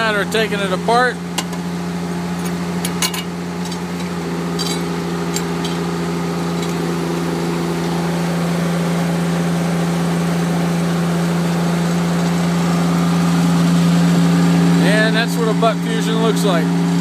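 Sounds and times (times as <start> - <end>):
hydraulic power unit humming: 0.0 - 17.0.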